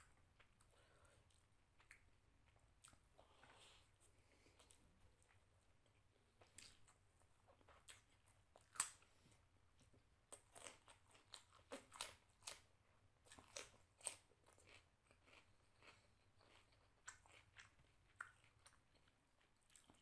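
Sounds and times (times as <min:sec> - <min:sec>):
person chewing crunchy food: 0:00.4 - 0:20.0.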